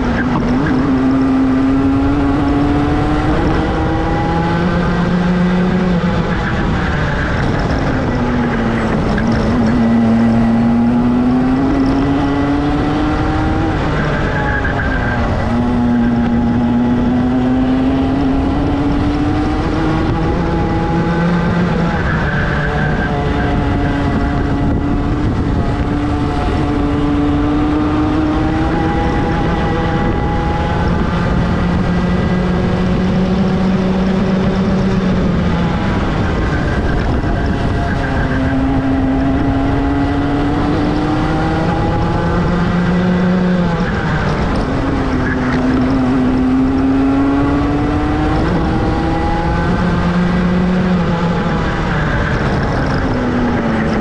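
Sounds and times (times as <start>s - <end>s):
constant rush of noise: 0.0s - 54.0s
racing kart engine at full throttle: 0.0s - 54.0s.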